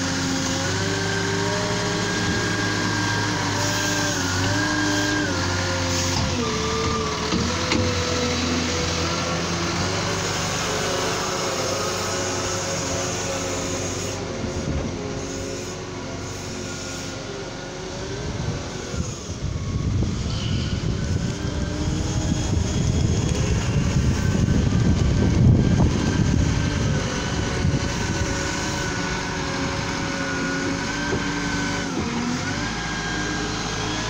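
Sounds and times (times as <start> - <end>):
wheel loader diesel engine whine: 0.0 - 34.0.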